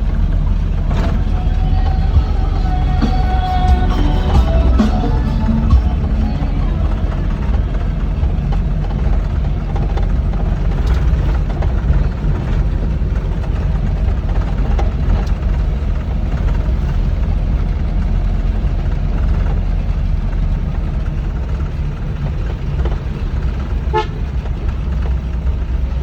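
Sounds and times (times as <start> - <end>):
harvester engine droning: 0.0 - 26.0.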